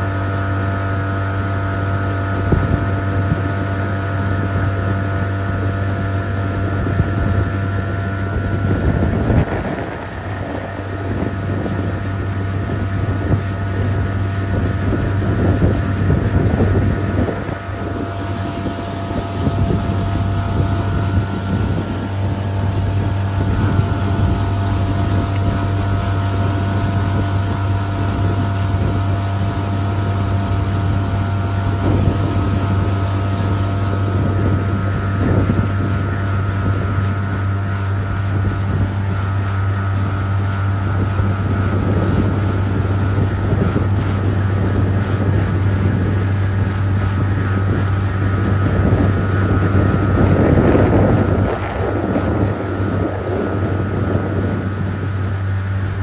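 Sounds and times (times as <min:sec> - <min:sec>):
outboard motor running: 0:00.0 - 0:56.0
wind noise on microphone: 0:00.0 - 0:56.0.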